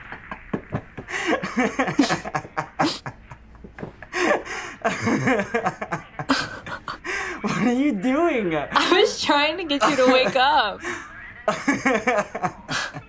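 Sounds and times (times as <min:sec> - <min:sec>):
young man laughing: 0:00.0 - 0:07.9, 0:09.8 - 0:13.0.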